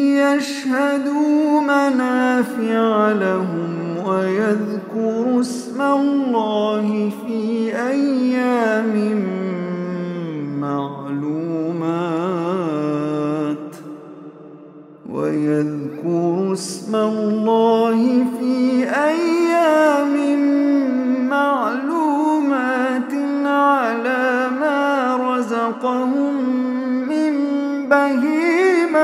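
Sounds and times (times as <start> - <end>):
man reciting melodically: 0.0 - 29.0.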